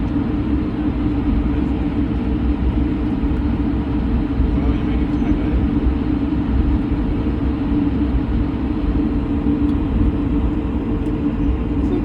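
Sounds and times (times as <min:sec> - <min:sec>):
airplane engines roaring: 0:00.0 - 0:12.0.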